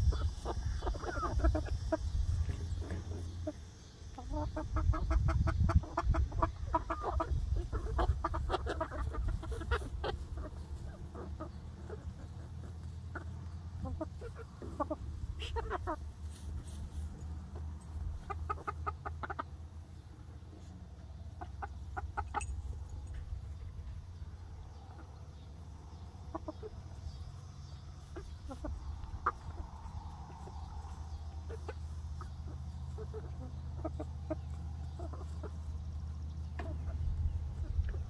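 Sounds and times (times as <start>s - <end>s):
hens clucking softly: 0.0s - 38.0s.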